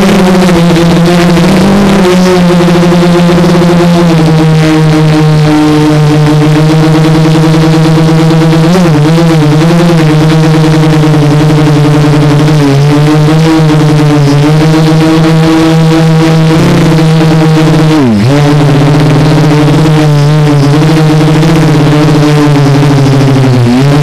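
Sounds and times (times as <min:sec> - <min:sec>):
drone propellers droning: 0:00.0 - 0:24.0.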